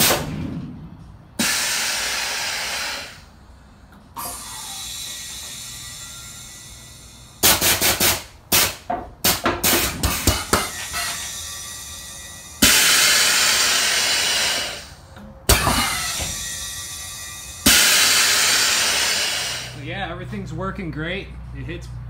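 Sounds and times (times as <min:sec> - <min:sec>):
short air bursts: 0:01.4 - 0:03.6, 0:04.2 - 0:19.8
long air hisses: 0:01.4 - 0:08.8, 0:09.6 - 0:19.8.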